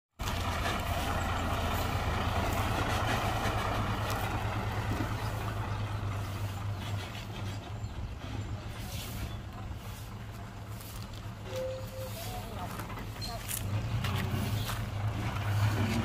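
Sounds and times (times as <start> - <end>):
diesel truck engine droning: 0.1 - 16.0.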